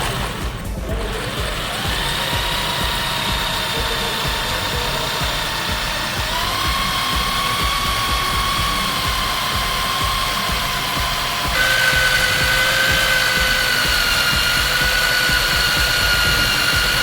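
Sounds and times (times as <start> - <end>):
electric drill whining: 0.0 - 17.0.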